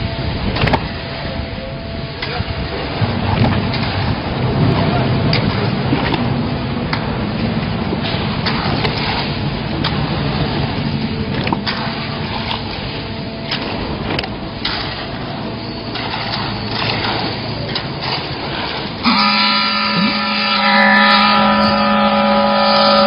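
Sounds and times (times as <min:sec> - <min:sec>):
concrete pump machine hum: 0:00.0 - 0:23.0.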